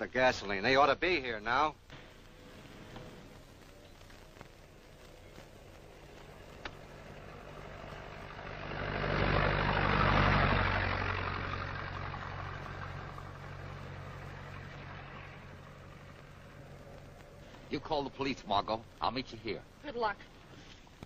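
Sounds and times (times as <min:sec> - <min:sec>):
vehicle engine humming: 0:01.7 - 0:21.0.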